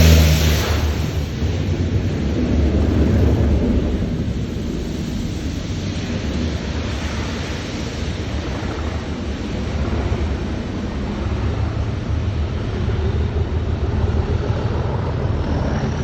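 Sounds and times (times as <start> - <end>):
diesel locomotive rumble: 0.0 - 16.0
train wheels rushing on rails: 0.0 - 16.0.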